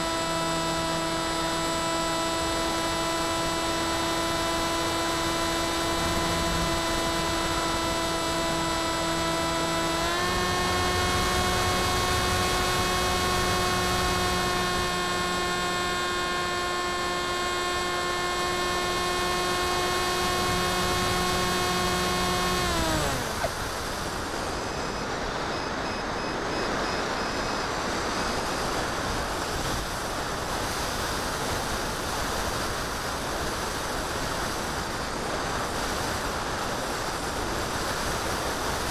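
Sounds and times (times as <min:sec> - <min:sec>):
electric motor propeller whine: 0:00.0 - 0:38.9.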